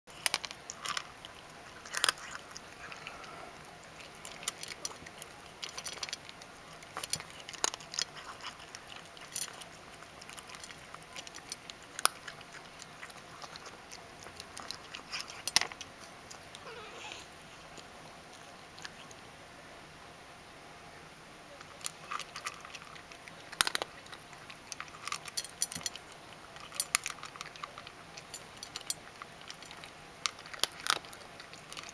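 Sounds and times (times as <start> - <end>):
cat crunching dry kibble: 0.1 - 19.2, 21.6 - 31.9.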